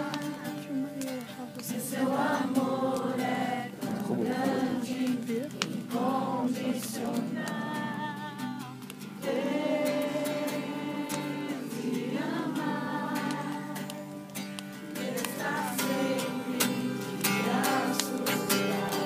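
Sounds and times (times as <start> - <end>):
group singing worship song: 0.0 - 19.0.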